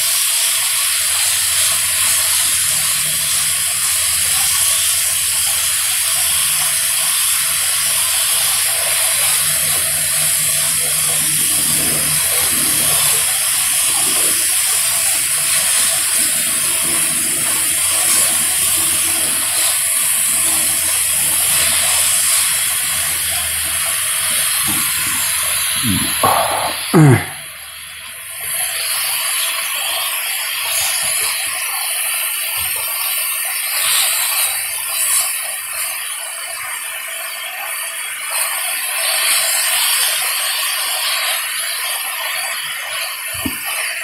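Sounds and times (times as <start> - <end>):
meat sizzling on griddle: 0.0 - 44.0.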